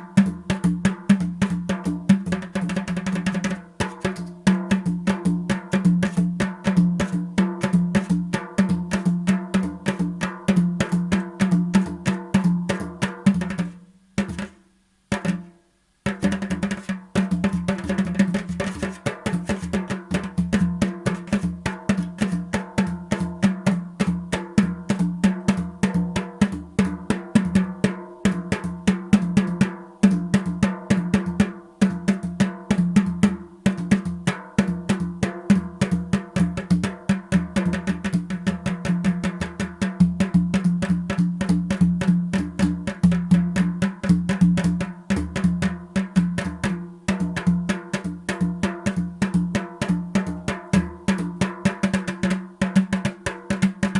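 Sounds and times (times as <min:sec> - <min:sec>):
fast drumming: 0:00.0 - 0:53.9.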